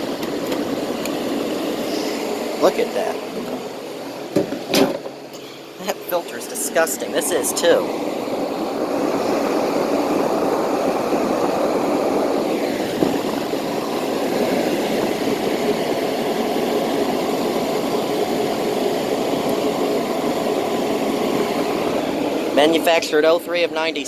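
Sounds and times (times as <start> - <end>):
air conditioner fan rushing: 0.0 - 24.0
faint steady hum: 0.0 - 24.0.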